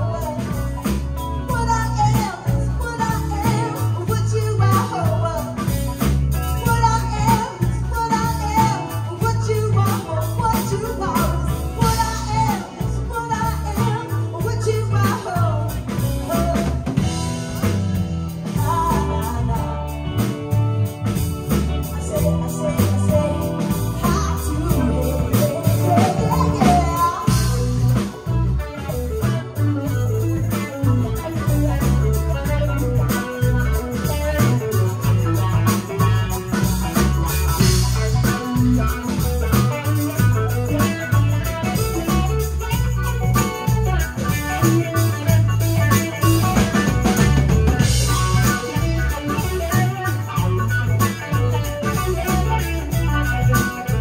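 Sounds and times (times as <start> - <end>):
drum kit steady beat: 0.0 - 54.0
electric bass: 0.0 - 54.0
electric guitar: 0.0 - 54.0
keyboard: 0.0 - 54.0.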